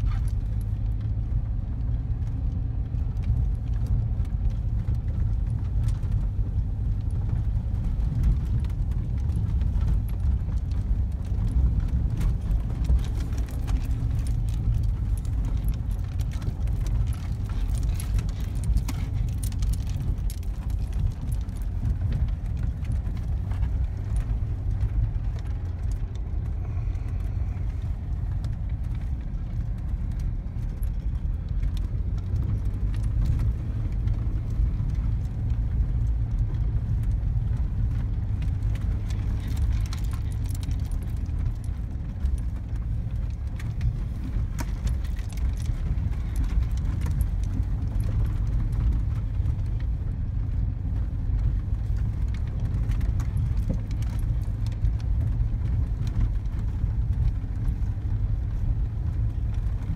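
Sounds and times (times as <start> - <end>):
body rattles and knocks: 0.0 - 59.9
engine and tyres rumbling: 0.0 - 59.9.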